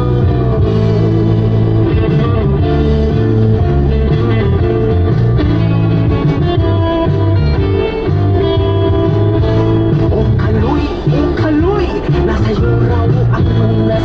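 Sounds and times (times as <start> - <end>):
guitar music: 0.0 - 14.0.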